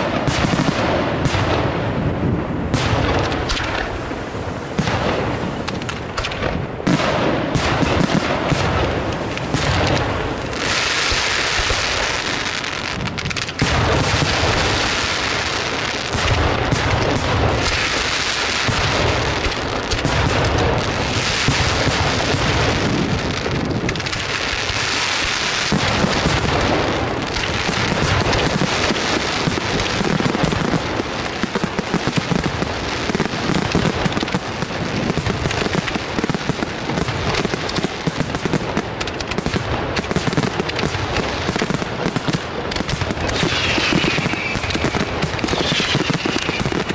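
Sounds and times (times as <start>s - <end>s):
firework shells booming: 0.0s - 46.9s
rapid firework crackling: 0.0s - 46.9s.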